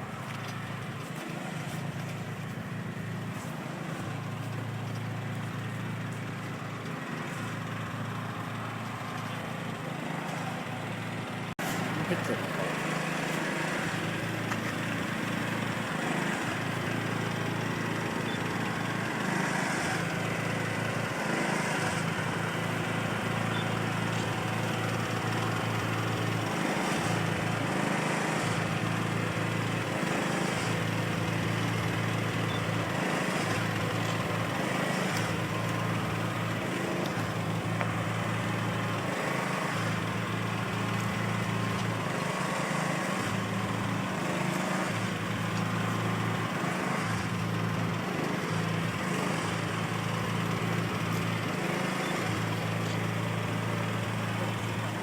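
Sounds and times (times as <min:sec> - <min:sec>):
truck engine running at low revs: 0:00.0 - 0:55.0.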